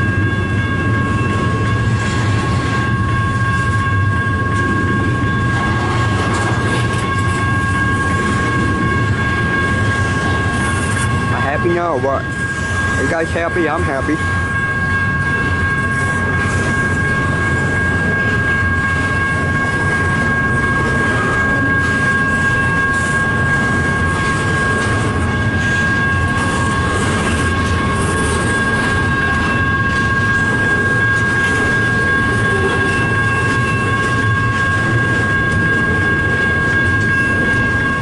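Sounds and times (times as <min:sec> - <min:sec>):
freight train wheels rumbling: 0:00.0 - 0:38.0
high-pitched tone: 0:00.0 - 0:38.0.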